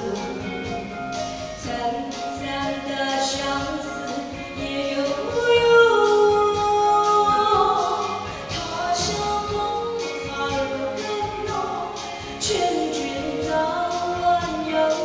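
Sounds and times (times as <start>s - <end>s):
musical accompaniment: 0.0s - 15.0s
person singing with long held notes: 0.0s - 15.0s.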